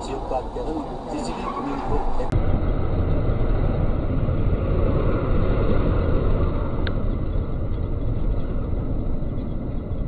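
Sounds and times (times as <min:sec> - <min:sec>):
vehicle rumbling: 0:00.0 - 0:10.0.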